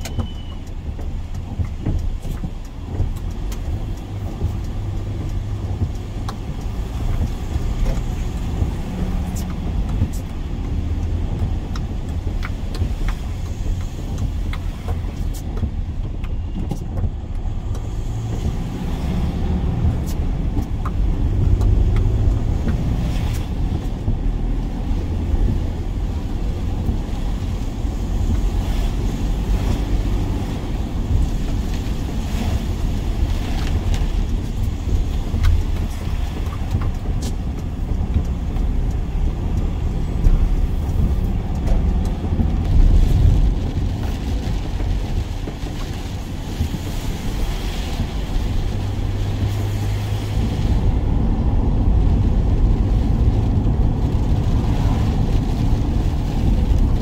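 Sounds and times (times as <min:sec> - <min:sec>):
light ticks: 0:00.0 - 0:29.0, 0:29.6 - 0:50.8
van engine and road noise: 0:00.0 - 0:57.0.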